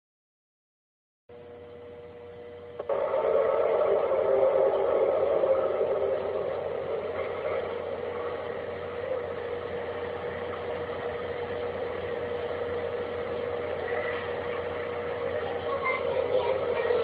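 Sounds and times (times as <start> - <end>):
steady droning hum: 1.3 - 17.0.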